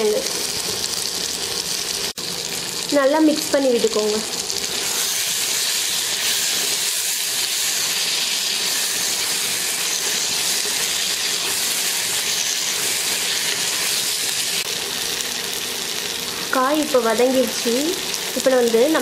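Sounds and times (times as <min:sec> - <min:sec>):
food sizzling in oil: 0:00.0 - 0:19.0.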